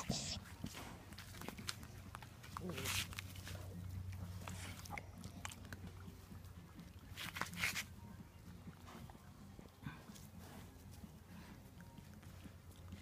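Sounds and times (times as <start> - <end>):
puppies chewing: 0.0 - 13.0.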